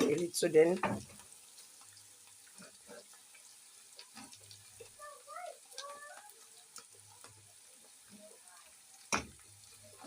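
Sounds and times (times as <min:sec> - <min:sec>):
onions frying in oil: 0:00.0 - 0:10.0.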